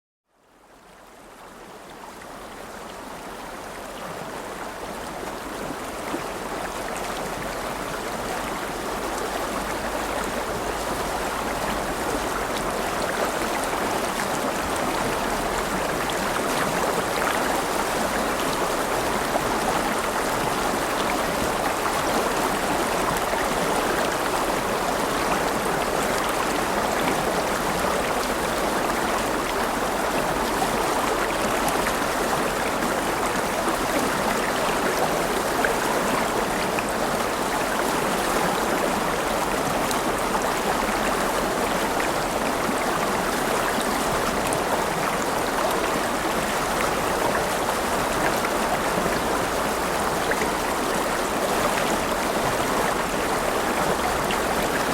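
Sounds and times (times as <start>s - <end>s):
river water rushing: 2.4s - 54.9s.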